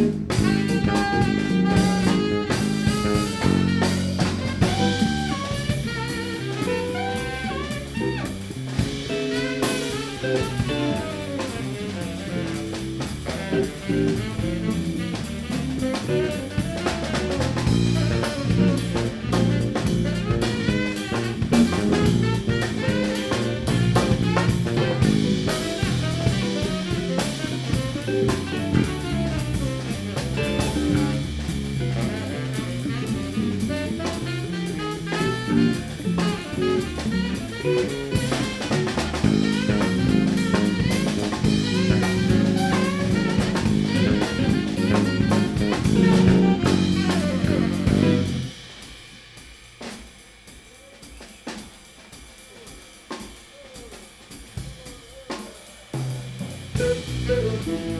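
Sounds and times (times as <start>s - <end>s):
jazz quartet playing live: 0.0s - 50.2s, 51.1s - 57.9s
drum kit playing: 0.0s - 57.9s.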